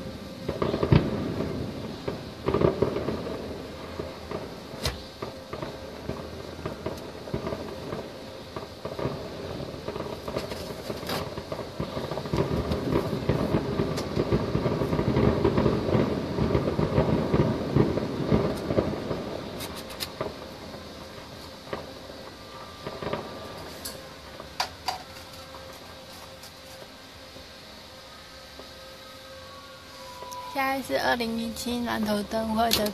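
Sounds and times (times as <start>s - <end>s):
sharp firework cracks: 0.0s - 26.7s
distant fireworks bursts: 0.0s - 32.9s.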